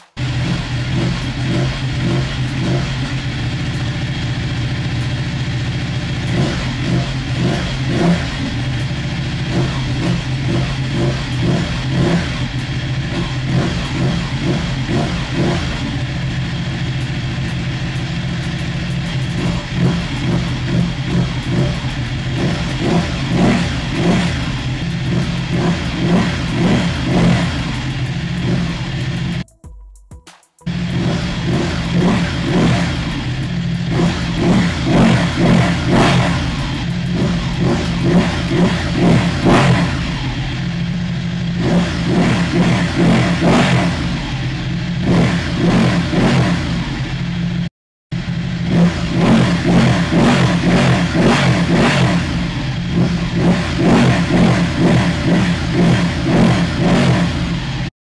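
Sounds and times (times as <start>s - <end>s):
engine throttle revs: 0.0s - 29.4s, 30.7s - 57.9s
motorcycle engine idling: 0.0s - 29.5s, 30.7s - 57.9s.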